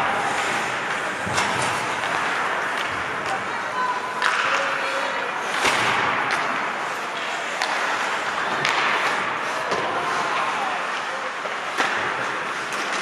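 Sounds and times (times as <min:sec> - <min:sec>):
sharp cracks of sticks and puck: 0:00.0 - 0:13.0
skates scraping on ice: 0:00.0 - 0:13.0.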